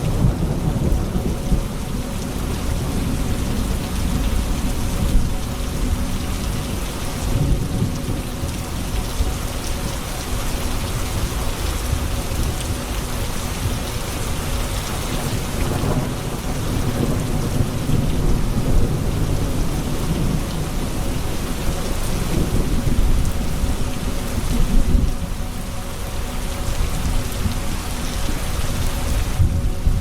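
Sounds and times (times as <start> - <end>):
heavy rain on hard surfaces: 0.0 - 30.0
thunder rumbling: 0.0 - 30.0.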